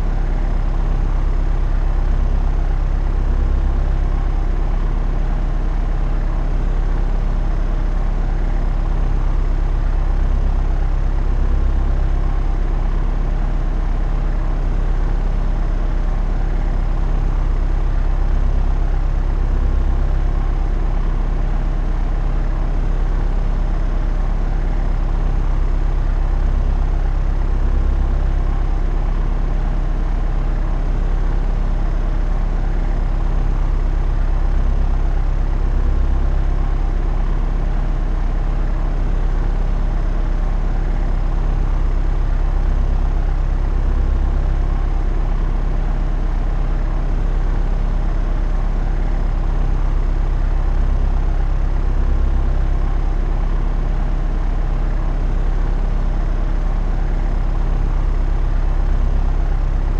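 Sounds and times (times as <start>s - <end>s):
propeller airplane engine drone: 0.0s - 59.9s.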